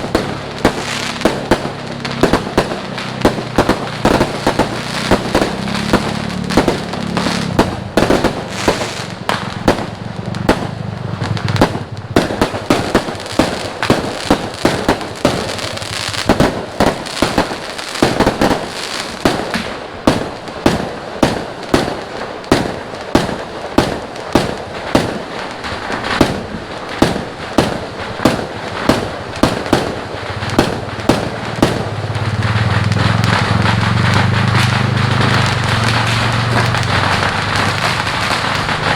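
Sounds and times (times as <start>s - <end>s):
fireworks bangs: 0.0s - 38.9s
fireworks crackle: 0.0s - 38.9s.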